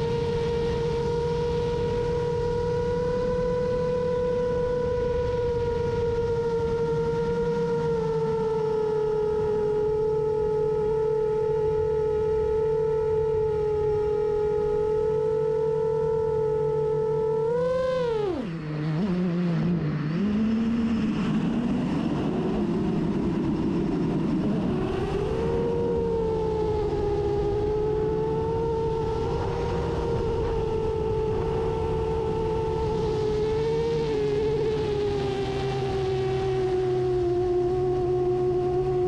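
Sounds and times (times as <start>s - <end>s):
drone electric motors whining: 0.0s - 39.0s.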